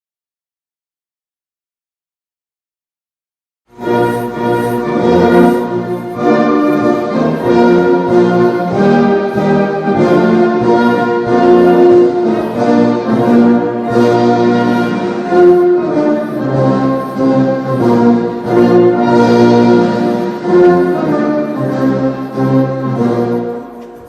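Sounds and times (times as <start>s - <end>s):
orchestral brass music: 3.8s - 24.0s.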